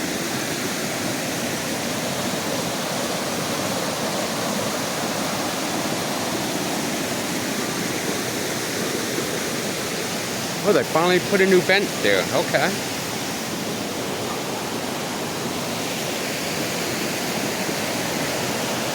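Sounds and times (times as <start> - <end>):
mountain creek rushing: 0.0 - 18.9.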